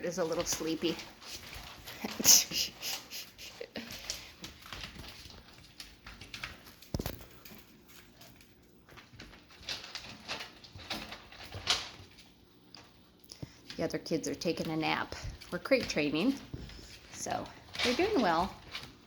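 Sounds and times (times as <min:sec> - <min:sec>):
puppies scratching and rustling: 0:00.0 - 0:19.0.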